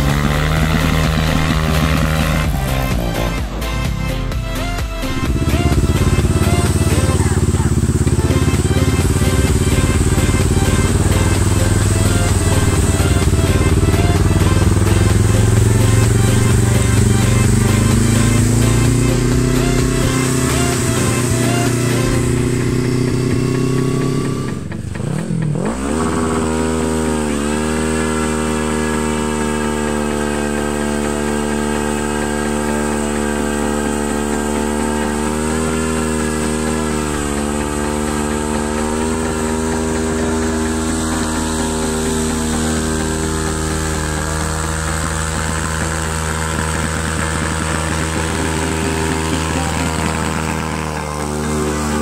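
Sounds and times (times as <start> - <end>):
tyres spinning on wet asphalt: 0.0 - 3.4, 5.1 - 52.0
quad engine at high revs: 0.0 - 52.0.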